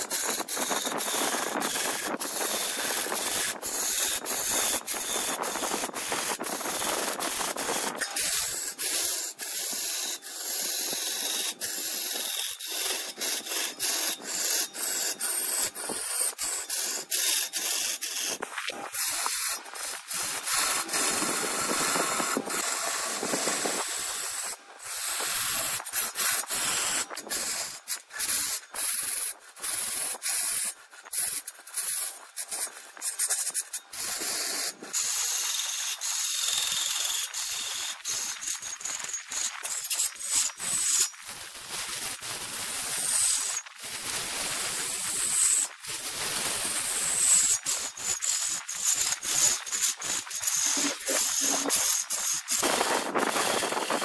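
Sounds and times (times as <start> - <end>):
tool scraping wood on lathe: 0.0 - 54.0.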